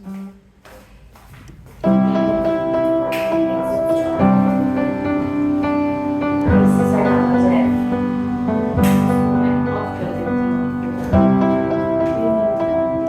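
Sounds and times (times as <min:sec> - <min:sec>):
sustained piano chords: 0:01.8 - 0:13.0.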